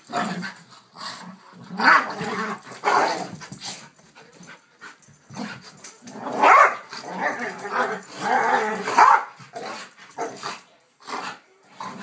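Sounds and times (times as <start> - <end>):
dogs play-fighting vocalizations: 0.1 - 12.0.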